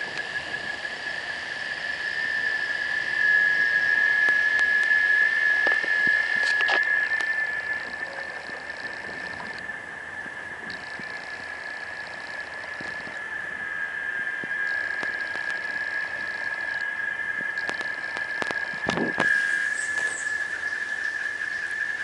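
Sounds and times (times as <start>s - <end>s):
rapid high ticking: 0.0s - 13.4s, 14.2s - 19.0s
cicadas singing: 0.0s - 22.0s.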